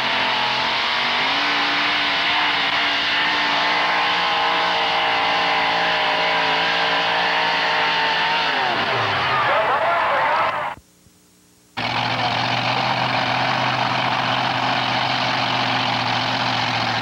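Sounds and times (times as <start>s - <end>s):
truck engine at full throttle: 0.0s - 10.8s, 11.8s - 17.0s.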